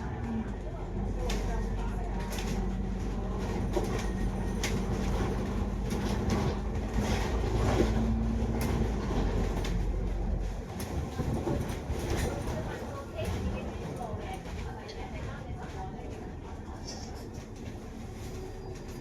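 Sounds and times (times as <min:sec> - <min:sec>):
bus engine drone and whine: 0:00.0 - 0:19.0.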